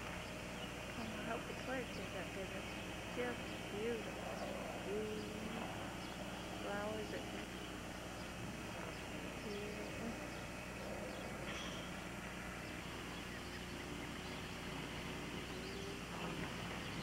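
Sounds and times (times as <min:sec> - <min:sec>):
faint distant tones: 0:00.0 - 0:17.0
low hum: 0:00.0 - 0:17.0.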